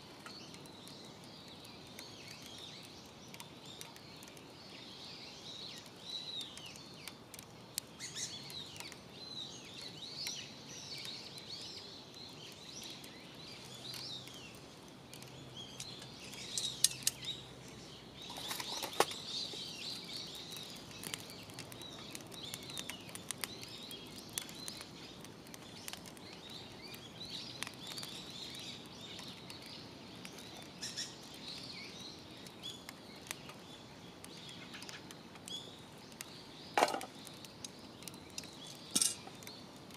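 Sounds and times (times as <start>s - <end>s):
wild birds chirping and calling: 0.2s - 39.9s.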